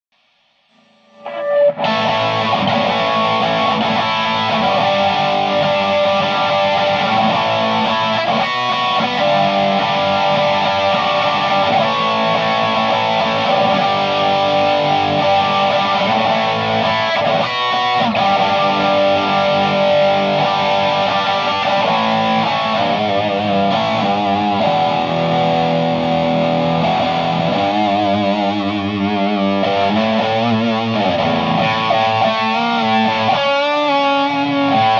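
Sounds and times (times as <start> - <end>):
distorted electric guitar: 0.2 - 34.9.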